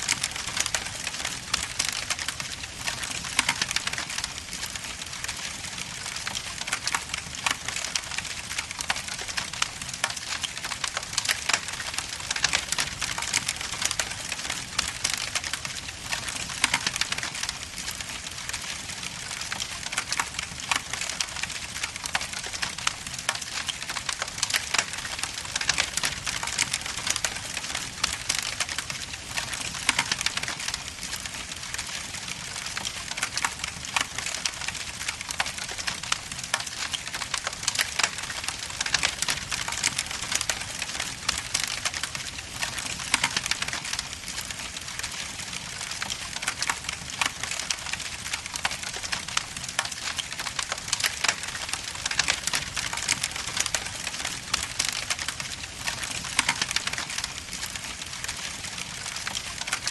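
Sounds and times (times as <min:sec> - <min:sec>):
fireplace logs crackling: 0:00.0 - 0:59.9.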